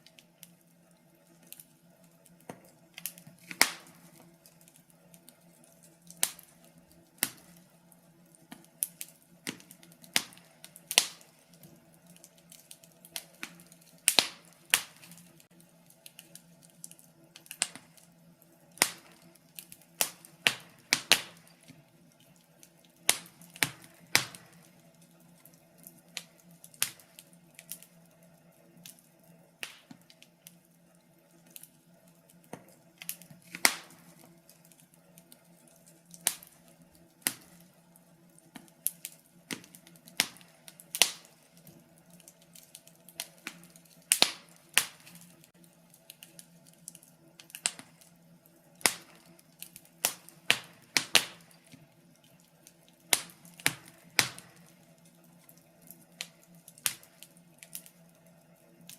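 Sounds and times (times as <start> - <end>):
faint steady hum: 0.0 - 58.9
wood fire crackling and popping: 0.0 - 58.9.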